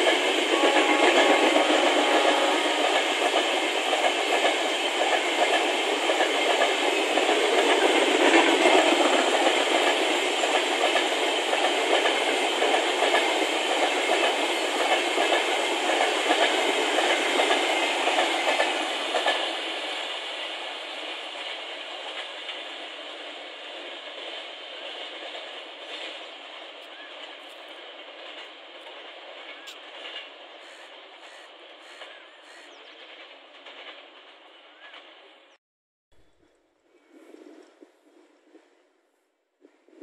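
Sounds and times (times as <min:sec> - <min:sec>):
train coaches rolling past: 0:00.0 - 0:35.6.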